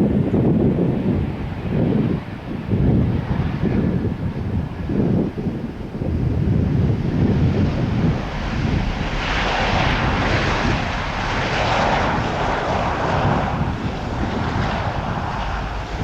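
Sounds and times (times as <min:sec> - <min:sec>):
jet airliner engine rushing: 0:00.0 - 0:16.0
wind buffeting microphone: 0:00.0 - 0:16.0.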